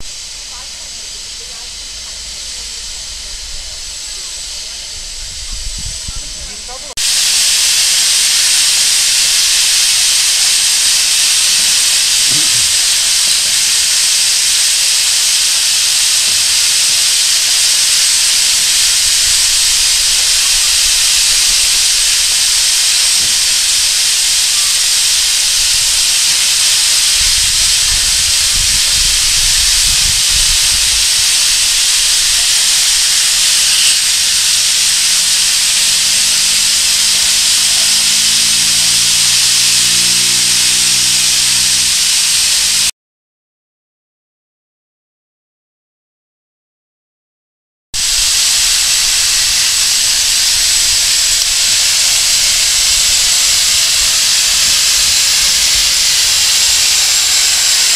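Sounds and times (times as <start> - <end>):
steam hissing from safety valves: 0.0 - 42.9, 48.0 - 57.9.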